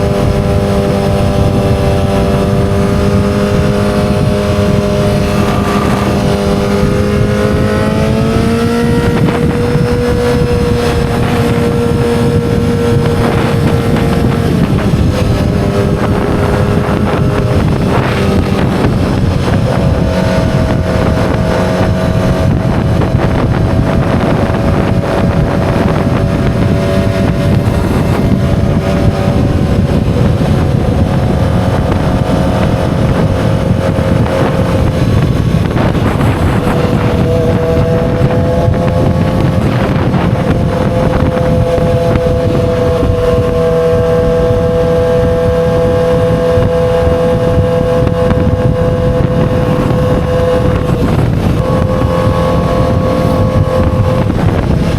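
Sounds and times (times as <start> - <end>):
motorcycle engine running: 0.0 - 54.9
wind rush on microphone: 0.0 - 54.9.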